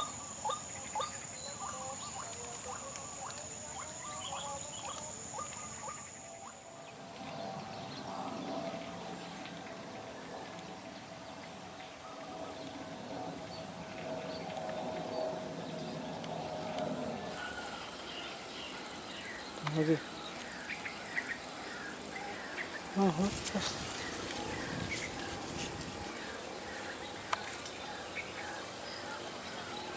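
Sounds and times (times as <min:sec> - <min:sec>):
crickets trilling: 0:00.0 - 0:09.4, 0:12.4 - 0:29.9.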